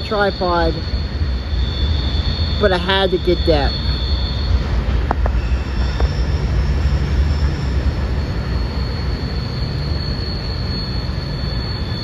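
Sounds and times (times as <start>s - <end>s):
faint high whine: 0.0s - 12.0s
train wheels rumbling on rail: 0.0s - 12.0s.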